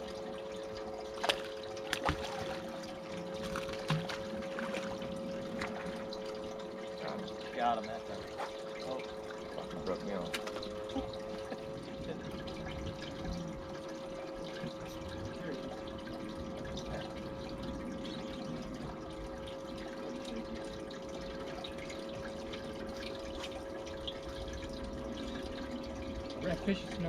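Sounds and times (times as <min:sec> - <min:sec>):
electric pump humming: 0:00.0 - 0:27.0
water splashing: 0:00.0 - 0:27.0.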